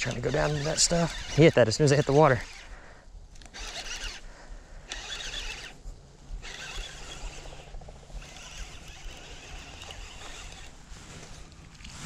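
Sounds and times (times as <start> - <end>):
fishing reel whirring: 0.0 - 2.8, 3.4 - 5.8, 6.4 - 10.9.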